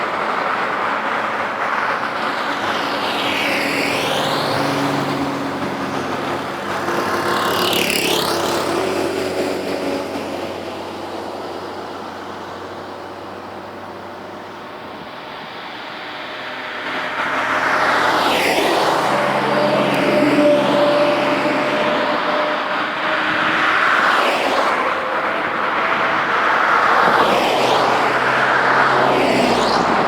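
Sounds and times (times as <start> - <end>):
cars passing by: 0.0 - 30.0
distant traffic: 0.0 - 30.0.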